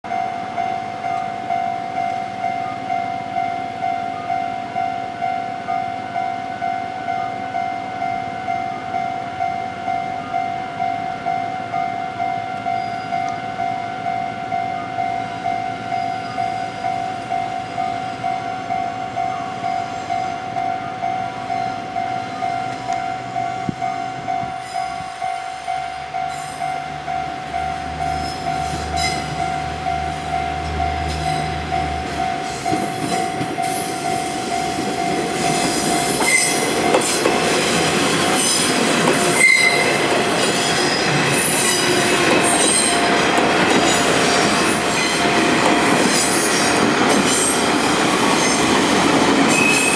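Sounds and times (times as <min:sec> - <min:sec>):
diesel railcar engines rumbling: 0:00.1 - 0:49.9
level-crossing warning bell: 0:00.1 - 0:49.9.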